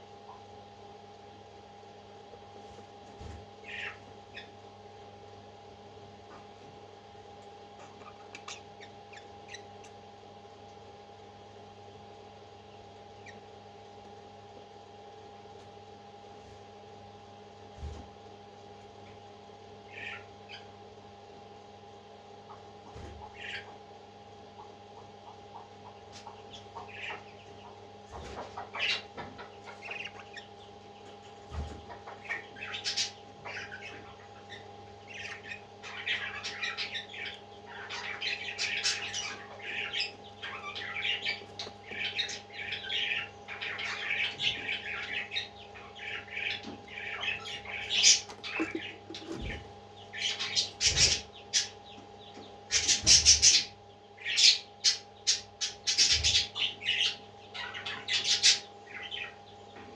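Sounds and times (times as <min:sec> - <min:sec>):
parrot chicks chirping and squawking: 0:00.0 - 0:59.9
steady machine hum: 0:00.0 - 0:59.9.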